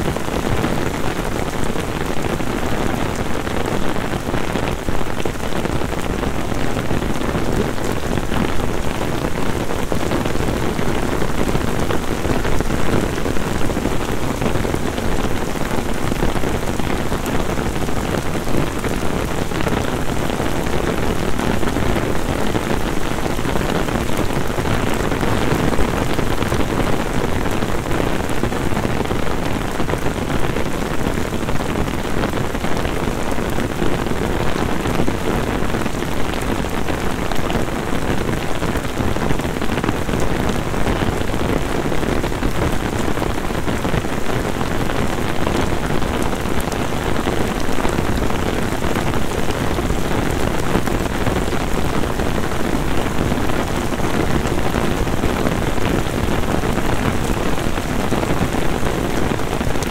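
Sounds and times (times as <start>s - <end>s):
heavy rain on street and umbrella: 0.0s - 59.9s.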